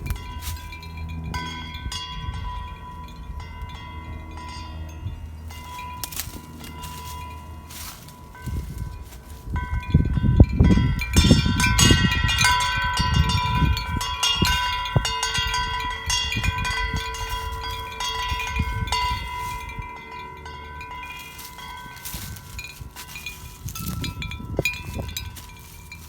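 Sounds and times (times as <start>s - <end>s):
metal wind chimes ringing: 0.0s - 26.0s
wind rumbling on microphone: 0.0s - 26.0s.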